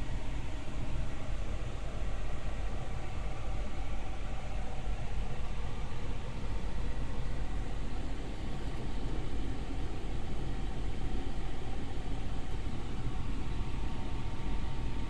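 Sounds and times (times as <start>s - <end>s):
faint steady tones: 0.0s - 15.0s.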